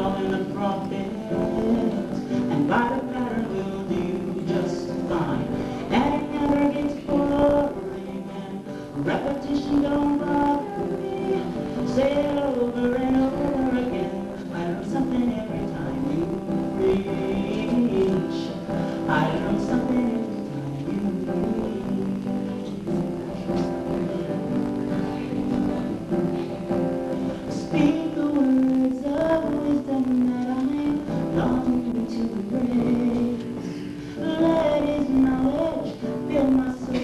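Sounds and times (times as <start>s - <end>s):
woman singing: 0.0s - 26.5s, 27.5s - 37.0s
acoustic guitar: 0.0s - 37.0s.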